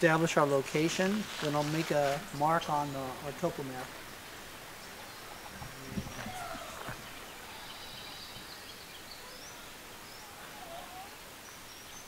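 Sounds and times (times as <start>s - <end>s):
distant birds calling: 0.0s - 12.0s.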